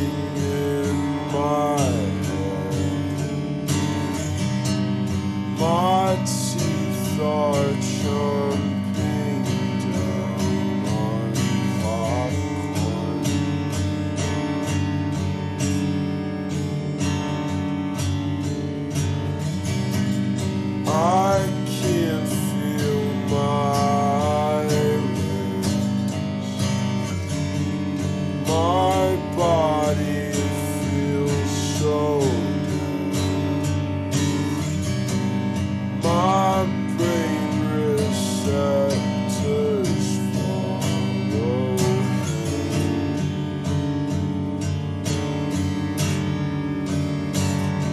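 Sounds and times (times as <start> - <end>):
acoustic guitar strumming: 0.0 - 47.9
sliding guitar melody: 0.0 - 47.9.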